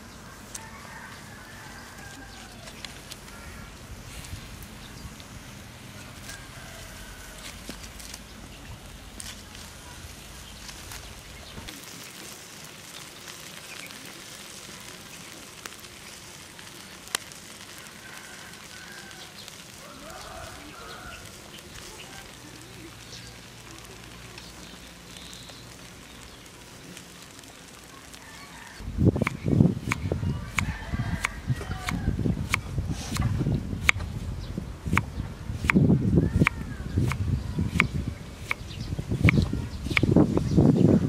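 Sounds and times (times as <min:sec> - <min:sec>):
meat sizzling on grill: 0:00.0 - 0:41.0.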